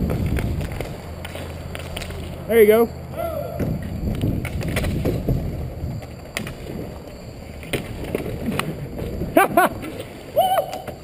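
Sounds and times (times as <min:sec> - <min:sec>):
skate wheels rolling: 0:00.0 - 0:11.0.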